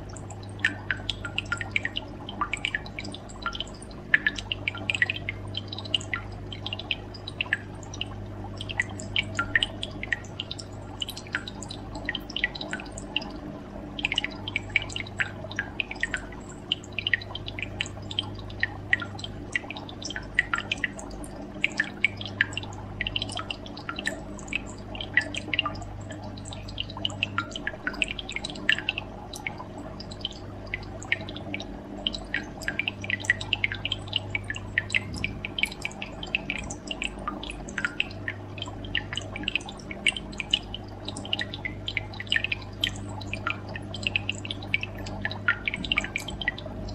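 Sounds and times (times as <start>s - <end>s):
aquarium water bubbling and dripping: 0.0s - 46.9s
steady low hum: 0.0s - 46.9s.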